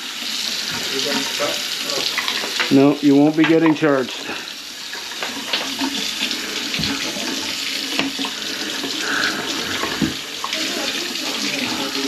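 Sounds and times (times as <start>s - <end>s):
faucet water splashing into sink: 0.0s - 12.0s.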